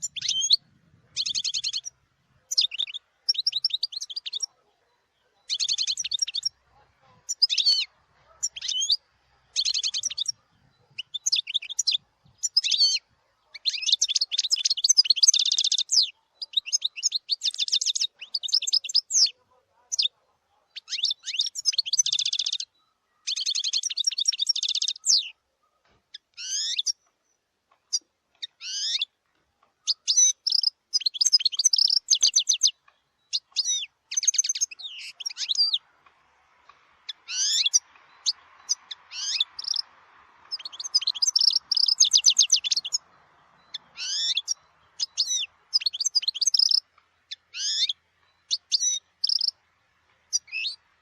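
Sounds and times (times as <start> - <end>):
goldfinch singing: 0.0 - 25.4, 26.1 - 51.0.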